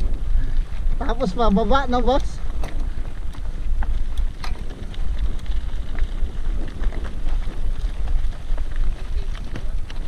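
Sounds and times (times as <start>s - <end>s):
vehicle rumbling over rough ground: 0.0s - 10.0s
wind buffeting microphone: 0.0s - 10.0s.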